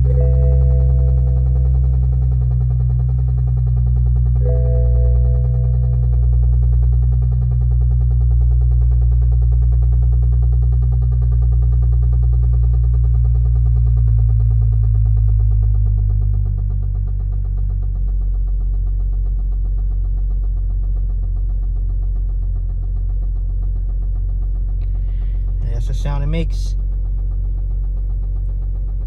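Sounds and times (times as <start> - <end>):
car engine idling: 0.0 - 29.0
fast repeating engine knock: 0.0 - 29.0.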